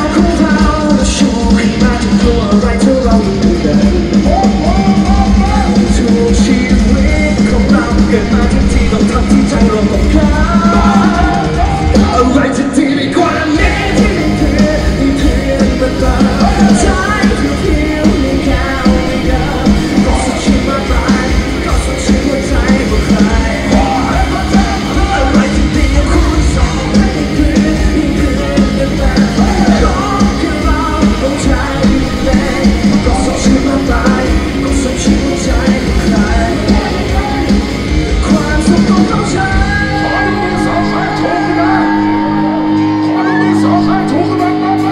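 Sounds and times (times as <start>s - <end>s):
live pop-rock band playing: 0.0s - 44.9s
man and woman singing: 0.0s - 44.9s.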